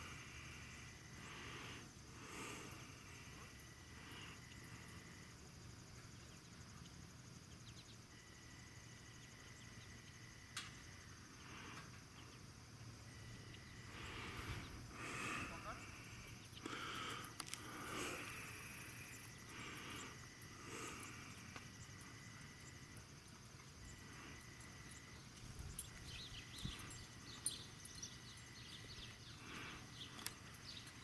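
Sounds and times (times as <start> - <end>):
soft breathy noises: 0.0 - 6.2, 8.0 - 31.0
faint insect trilling: 0.0 - 31.0.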